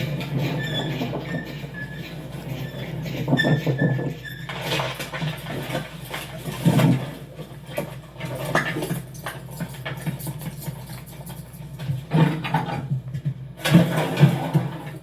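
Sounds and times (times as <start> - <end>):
knocks and clatter: 0.0 - 15.0.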